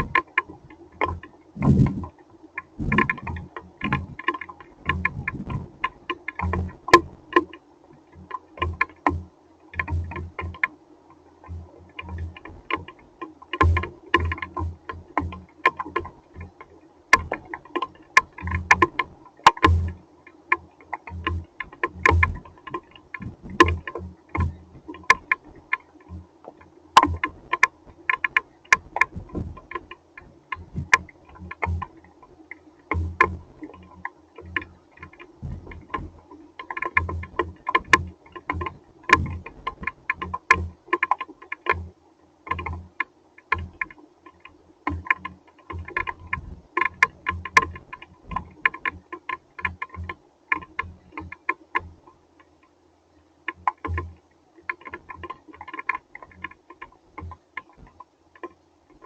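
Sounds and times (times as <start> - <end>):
low hum: 0.0 - 52.3.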